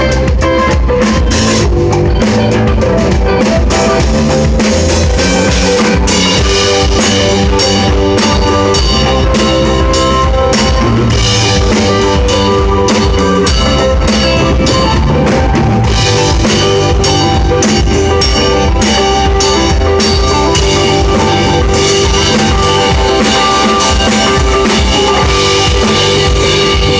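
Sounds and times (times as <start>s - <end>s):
bass guitar: 0.0s - 26.9s
drum kit beating: 0.0s - 26.9s
electric guitar: 0.0s - 26.9s.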